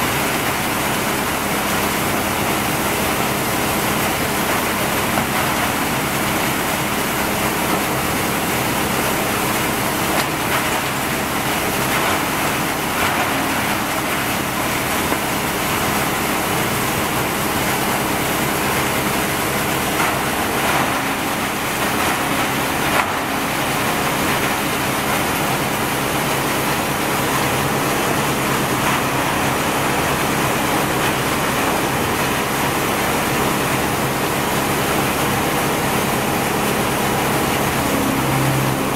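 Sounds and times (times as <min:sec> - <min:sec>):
crusher and blower running: 0:00.0 - 0:38.9.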